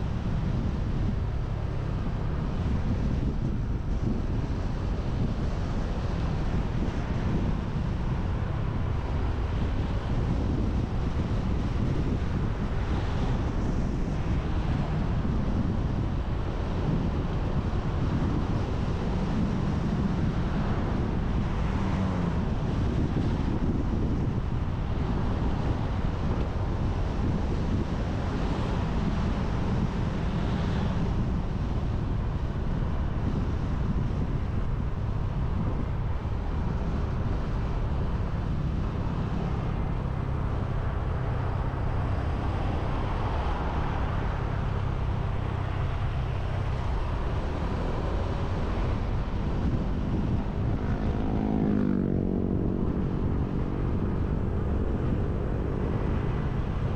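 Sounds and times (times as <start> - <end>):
motorbike engine and tyre noise: 0.0 - 56.9
wind rushing across microphone: 0.0 - 56.9.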